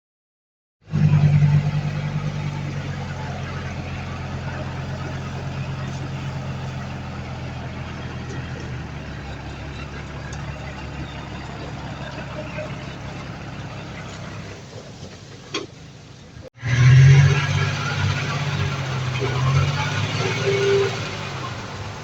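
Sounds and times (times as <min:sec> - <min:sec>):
heavy machinery diesel engine: 0:00.8 - 0:22.0.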